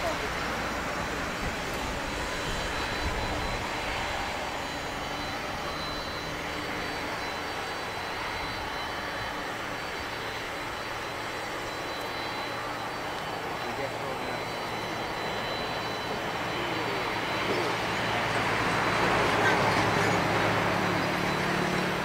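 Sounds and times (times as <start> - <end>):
jet engines taxiing: 0.0 - 22.0.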